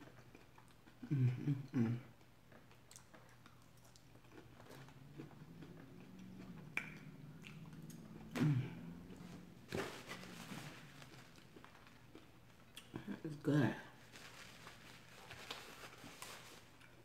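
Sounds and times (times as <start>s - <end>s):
person chewing salad: 0.0s - 13.0s, 14.9s - 17.0s.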